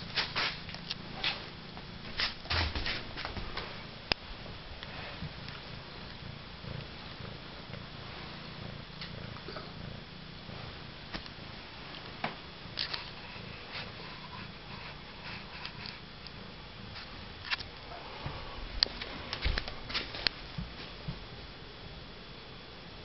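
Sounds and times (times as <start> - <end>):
cat purring: 3.0 - 22.3.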